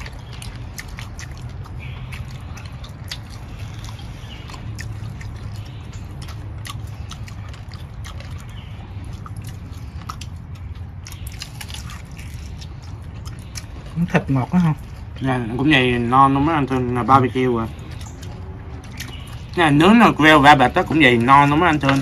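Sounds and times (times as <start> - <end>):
people chewing with wet clicks: 0.0 - 22.0
steady low hum: 0.0 - 22.0.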